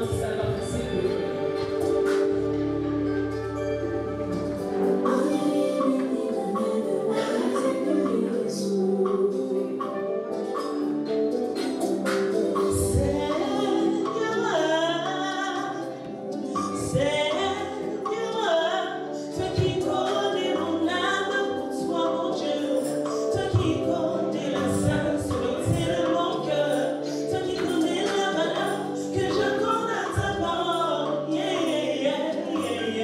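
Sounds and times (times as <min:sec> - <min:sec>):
group singing gospel: 0:00.0 - 0:33.0.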